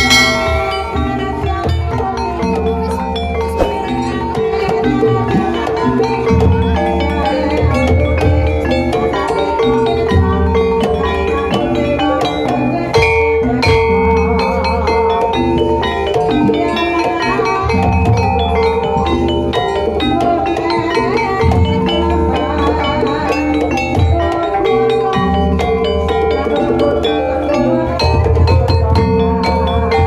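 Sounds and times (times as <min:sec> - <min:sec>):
metallophones and gongs: 0:00.0 - 0:30.0.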